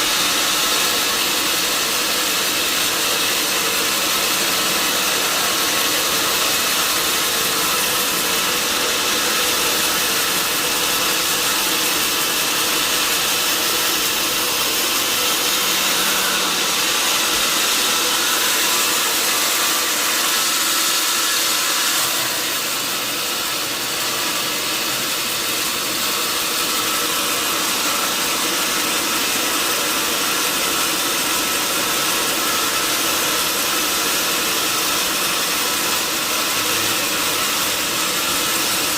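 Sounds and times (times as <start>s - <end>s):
log saw running: 0.0s - 38.9s.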